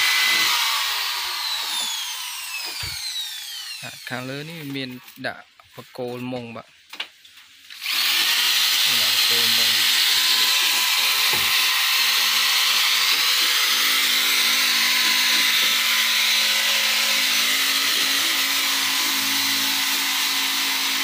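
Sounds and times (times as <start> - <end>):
cordless drill drilling wood: 0.0 - 4.5, 7.7 - 21.0.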